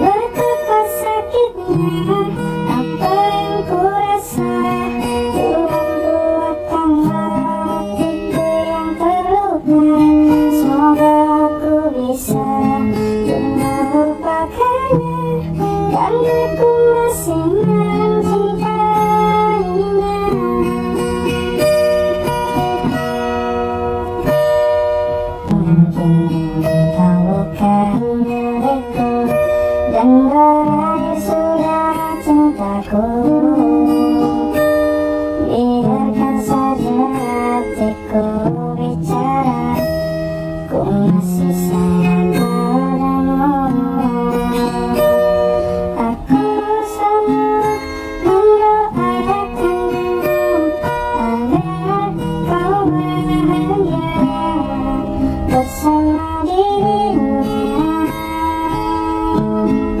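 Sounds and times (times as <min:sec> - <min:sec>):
pop-rock song with guitar: 0:00.0 - 1:00.0.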